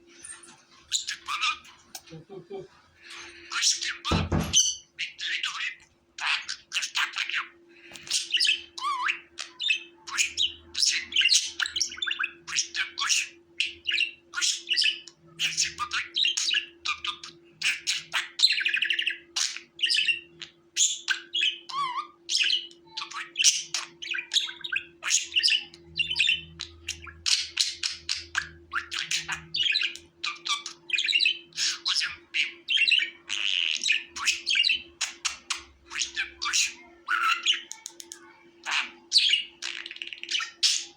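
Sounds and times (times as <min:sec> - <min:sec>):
budgerigars chirping and warbling: 0:00.1 - 0:40.9.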